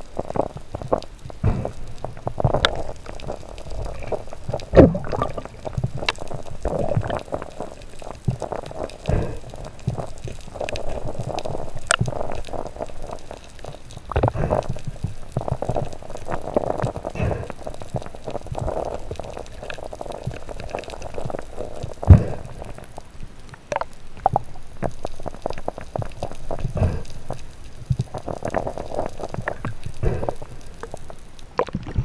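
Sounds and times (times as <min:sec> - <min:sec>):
muffled underwater water swirling: 0:00.0 - 0:32.0.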